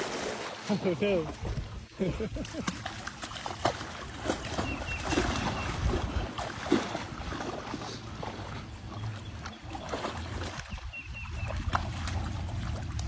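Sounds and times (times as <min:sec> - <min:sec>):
animals splashing through water: 0:00.0 - 0:13.0.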